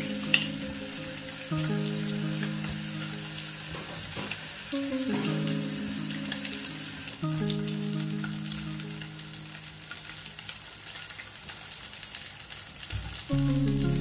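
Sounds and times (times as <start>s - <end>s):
meat sizzling in hot oil: 0.0s - 14.0s.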